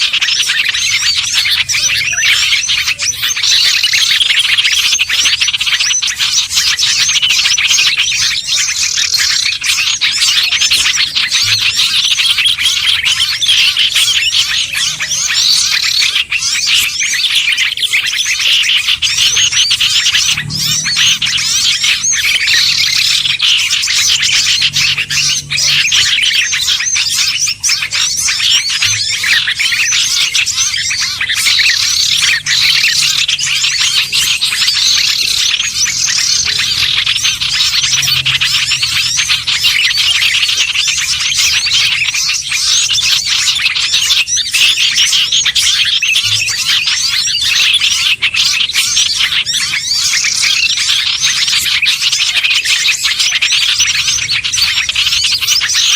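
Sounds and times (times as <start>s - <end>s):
many songbirds chattering: 0.0s - 55.9s.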